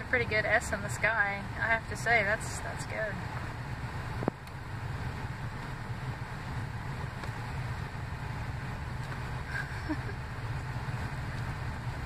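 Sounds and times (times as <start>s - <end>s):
car rumble from inside: 0.0s - 12.0s.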